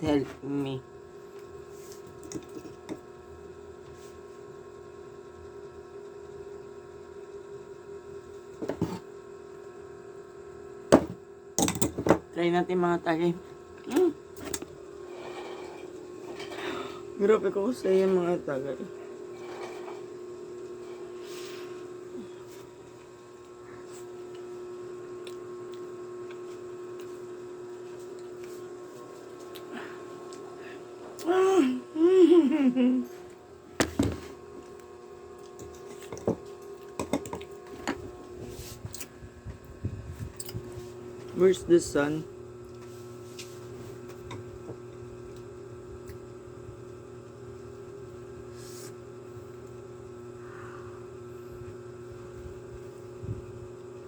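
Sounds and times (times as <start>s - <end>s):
steady low hum: 7.9s - 54.0s.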